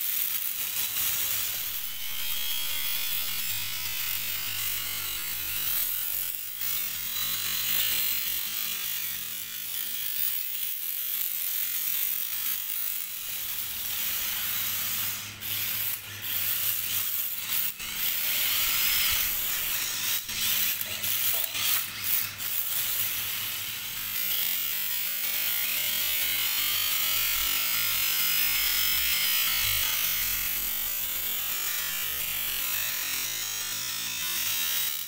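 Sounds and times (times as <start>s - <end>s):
rc car motors whining: 0.0s - 35.0s.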